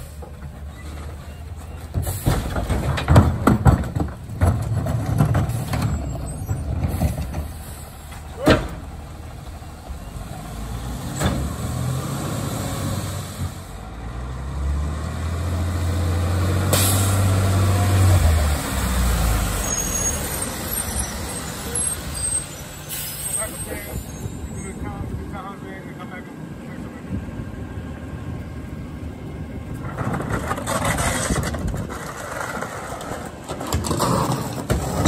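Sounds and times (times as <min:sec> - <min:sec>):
garbage truck engine: 0:00.0 - 0:35.0.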